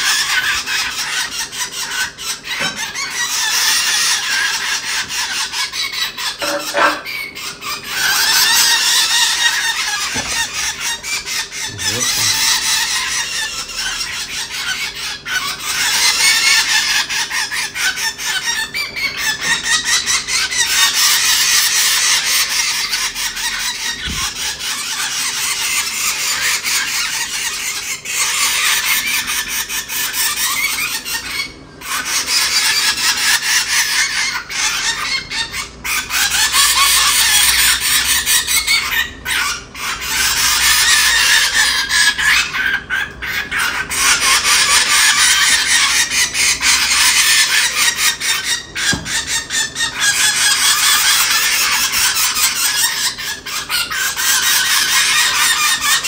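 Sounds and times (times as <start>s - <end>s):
fledgling birds begging calls: 0.0s - 56.0s.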